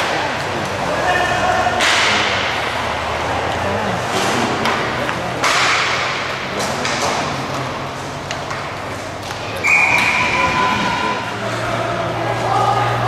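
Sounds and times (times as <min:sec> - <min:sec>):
hockey sticks and puck clacking: 0:00.0 - 0:13.0.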